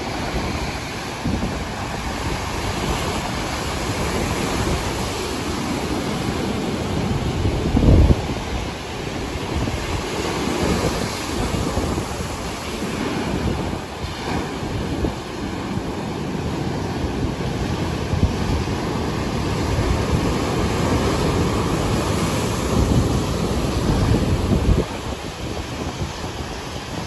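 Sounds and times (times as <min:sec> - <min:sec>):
sea surf breaking: 0:00.0 - 0:27.0
wind buffeting microphone: 0:00.0 - 0:27.0.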